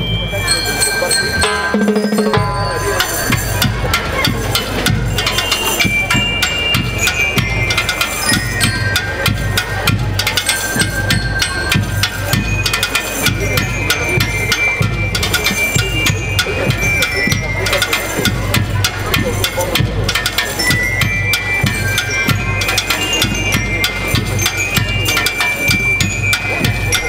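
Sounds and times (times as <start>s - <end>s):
bell lyres ringing melody: 0.0s - 27.0s
snare and bass drums beat: 1.4s - 27.0s.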